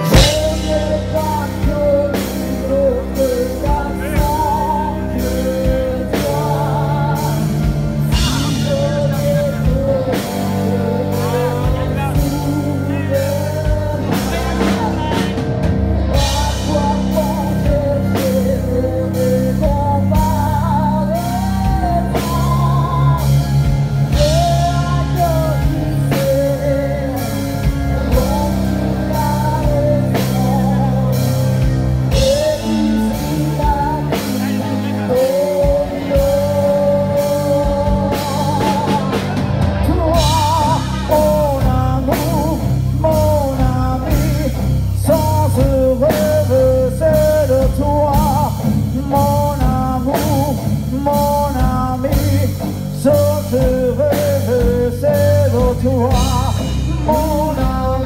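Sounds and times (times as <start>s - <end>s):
woman singing: 0.0s - 15.4s, 16.1s - 58.0s
live rock band playing: 0.0s - 58.0s.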